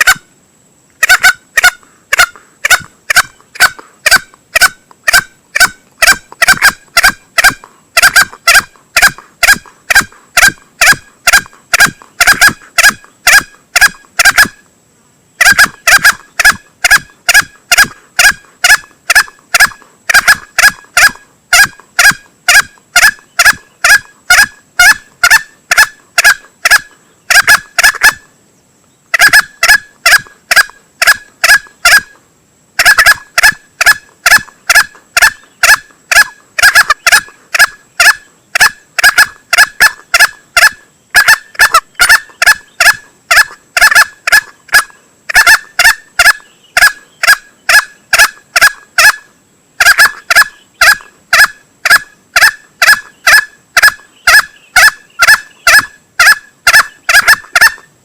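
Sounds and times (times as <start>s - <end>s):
junglefowl short clipped calls: 0.0s - 0.3s, 1.0s - 14.6s, 15.4s - 28.2s, 29.1s - 32.2s, 32.8s - 57.9s.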